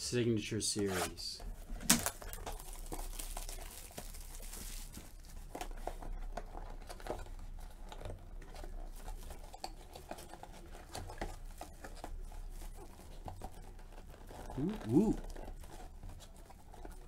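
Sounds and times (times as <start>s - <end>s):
plastic shrink-wrap crinkling and tearing: 1.5s - 17.0s.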